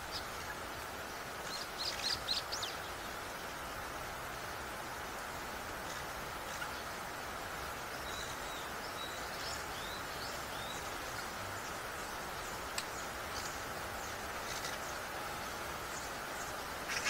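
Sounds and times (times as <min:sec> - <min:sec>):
small birds chirping: 0:00.0 - 0:17.0
steady outdoor hiss: 0:00.0 - 0:17.0.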